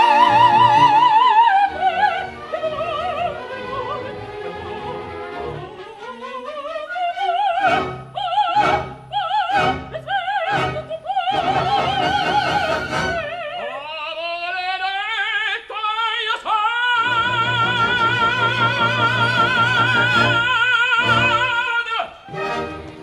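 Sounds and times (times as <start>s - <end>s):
orchestral accompaniment: 0.0s - 13.4s, 17.1s - 23.0s
operatic singing with vibrato: 0.0s - 23.0s.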